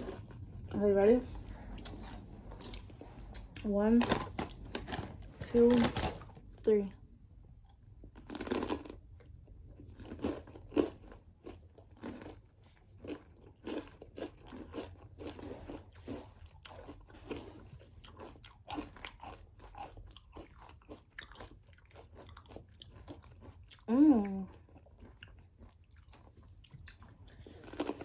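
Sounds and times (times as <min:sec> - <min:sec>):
crunching and chewing: 0:00.0 - 0:06.6, 0:07.5 - 0:28.0.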